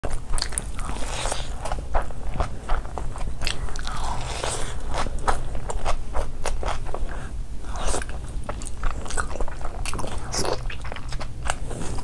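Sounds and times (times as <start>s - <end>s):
chewing with wet mouth clicks: 0.0s - 12.0s
low steady hum: 0.0s - 12.0s.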